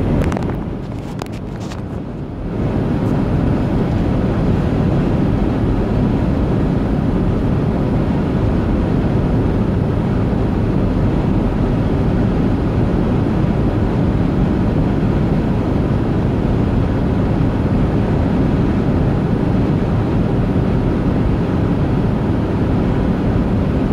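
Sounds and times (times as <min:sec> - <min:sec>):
vehicle and road rumble: 0:00.0 - 0:23.9.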